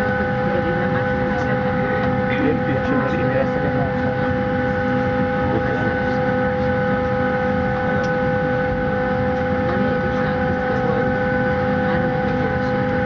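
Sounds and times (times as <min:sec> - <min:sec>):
airplane cabin machinery whine: 0:00.0 - 0:13.0.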